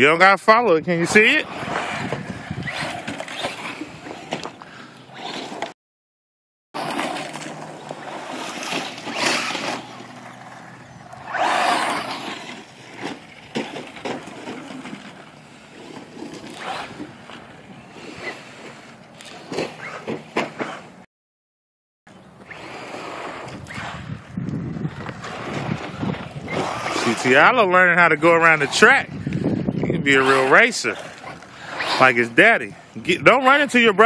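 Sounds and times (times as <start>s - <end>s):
toy car motor and wheels scraping: 0.9s - 5.8s, 6.8s - 21.0s, 22.4s - 33.2s.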